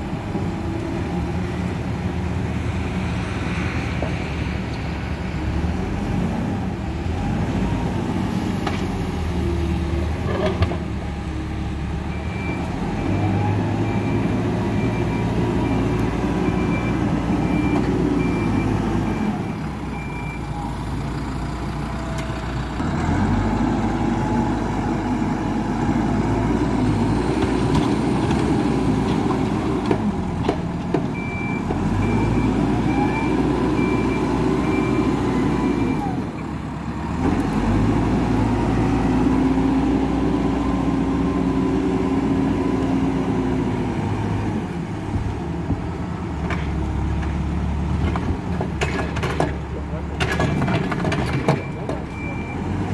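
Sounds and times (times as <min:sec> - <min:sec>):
backhoe diesel engine working hard: 0:05.4 - 0:52.9.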